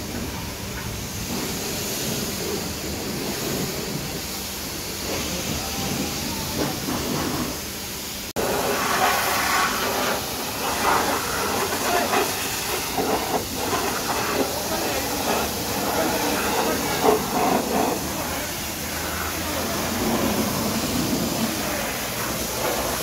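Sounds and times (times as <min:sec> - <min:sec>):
car wash hissing: 0:00.0 - 0:23.0
pressure washer spraying water: 0:00.0 - 0:23.0.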